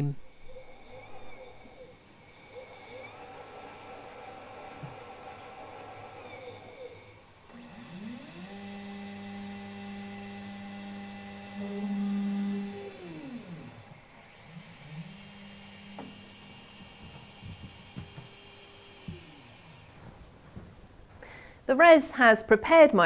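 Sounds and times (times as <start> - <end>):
electric motor whining: 0.0 - 20.8.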